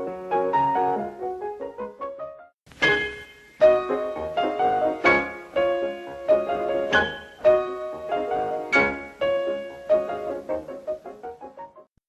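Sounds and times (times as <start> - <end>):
piano chords and notes: 0.0 - 11.9.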